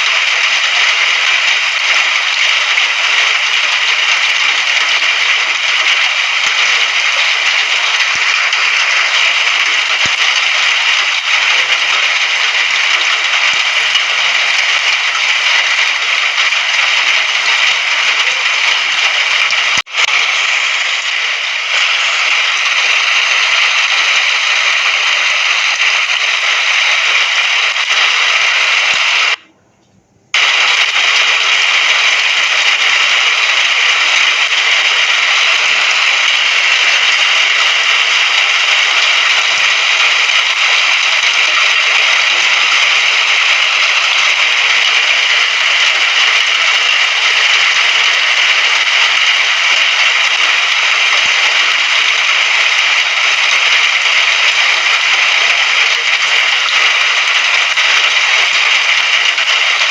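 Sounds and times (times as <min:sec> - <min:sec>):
steady rain falling: 0:00.0 - 0:29.4, 0:30.4 - 0:59.9.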